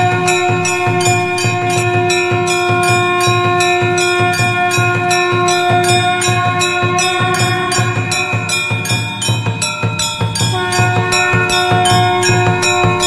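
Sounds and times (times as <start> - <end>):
temple bells ringing: 0.0 - 13.0.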